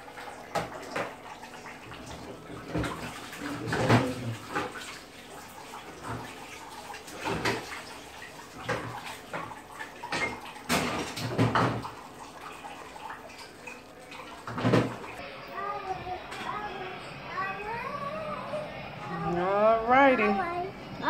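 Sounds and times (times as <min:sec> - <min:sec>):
thick soup boiling and bubbling: 0:00.0 - 0:19.3.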